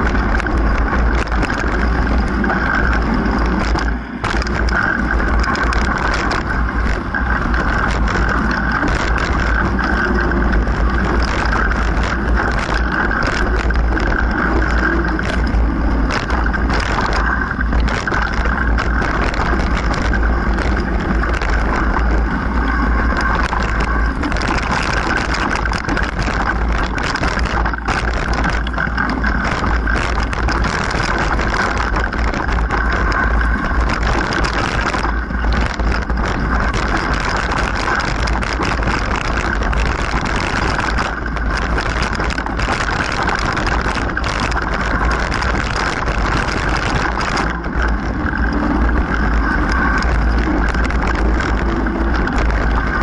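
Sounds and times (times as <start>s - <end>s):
bike rattling and knocking: 0.0s - 53.0s
bike tyres rolling over dirt: 0.0s - 53.0s
wind buffeting microphone: 0.0s - 53.0s.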